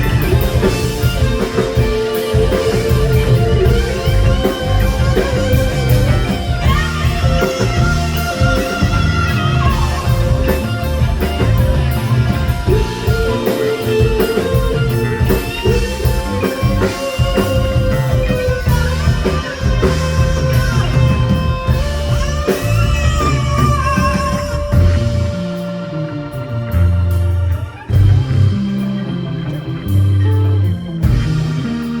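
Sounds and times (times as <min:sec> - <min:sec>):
electric guitar bending notes: 0:00.0 - 0:32.0
rock band playing: 0:00.0 - 0:32.0.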